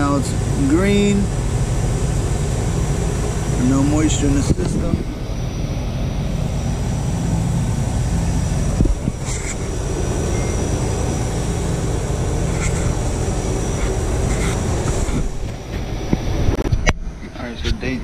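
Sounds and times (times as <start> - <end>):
condensing unit droning: 0.0 - 18.0.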